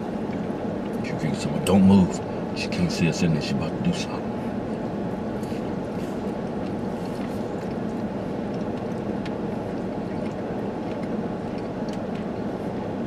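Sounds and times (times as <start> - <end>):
car engine or blower hum: 0.0 - 13.0.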